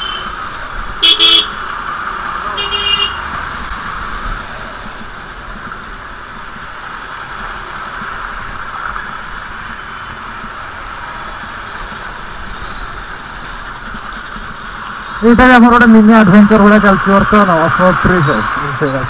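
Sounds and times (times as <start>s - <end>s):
vehicle road and engine noise: 0.0s - 19.0s.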